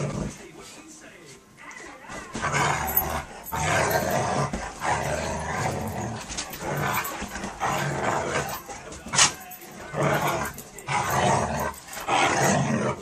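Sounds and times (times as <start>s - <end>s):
dogs growling: 0.0s - 0.5s, 2.1s - 13.0s.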